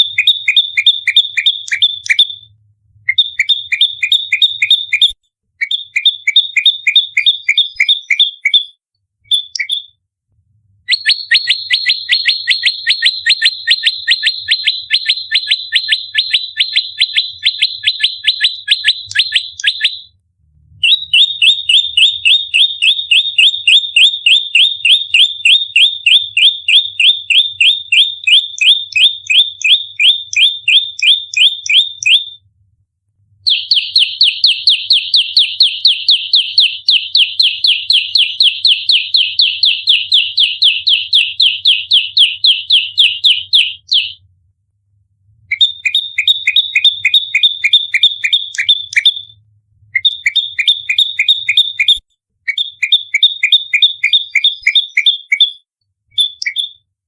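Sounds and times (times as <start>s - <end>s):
bird chirping rapidly: 0.0s - 2.5s, 3.1s - 10.0s, 10.9s - 20.1s, 20.8s - 32.4s, 33.5s - 44.2s, 45.5s - 49.3s, 50.0s - 56.8s.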